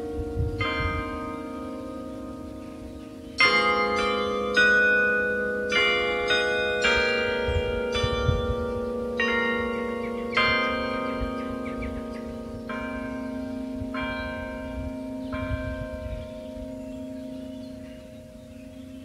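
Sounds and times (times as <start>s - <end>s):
carillon bells playing a melody: 0.0s - 19.0s.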